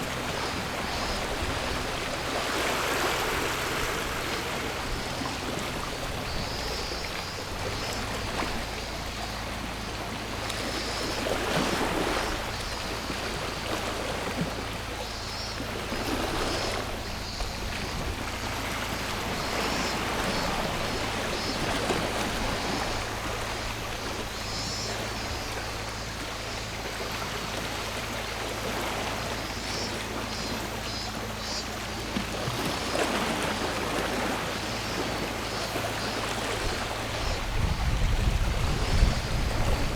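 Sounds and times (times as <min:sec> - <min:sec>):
cicadas trilling: 0:00.0 - 0:39.9
sea waves washing ashore: 0:00.0 - 0:39.9
steady low hum: 0:00.0 - 0:39.9.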